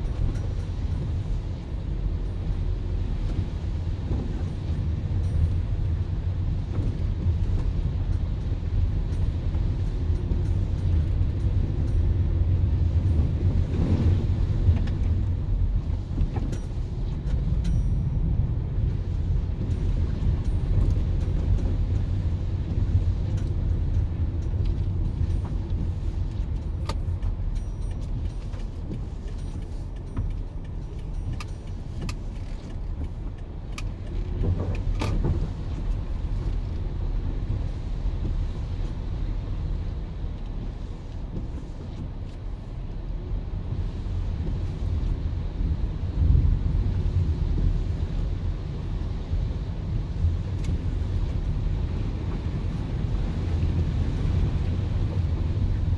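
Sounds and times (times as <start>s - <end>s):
car engine and road rumble: 0.0s - 55.9s
tyres on wet road: 0.0s - 55.9s.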